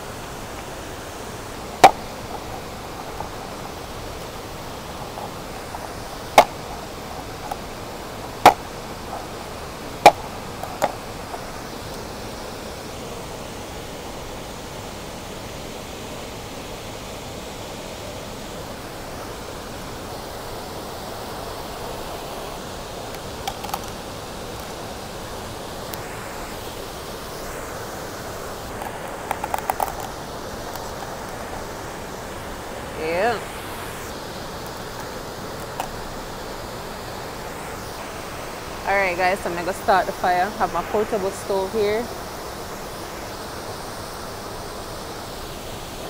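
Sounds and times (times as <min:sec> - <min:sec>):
river running over stones: 0:00.0 - 0:46.0.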